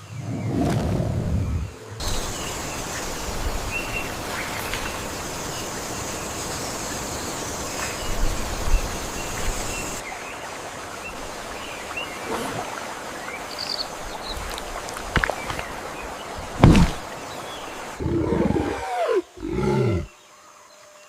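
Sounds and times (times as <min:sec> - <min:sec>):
hiss-like forest background: 0:00.0 - 0:21.0.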